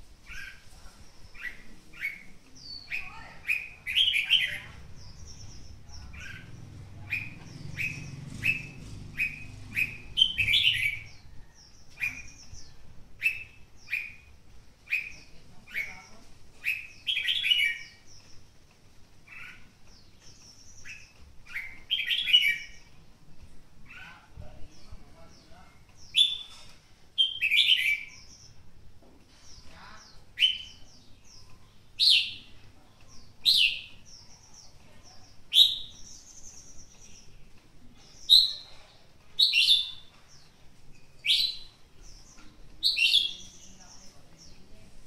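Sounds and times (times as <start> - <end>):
bird chirping: 0.1 - 45.0
bird warbled song: 0.1 - 45.0.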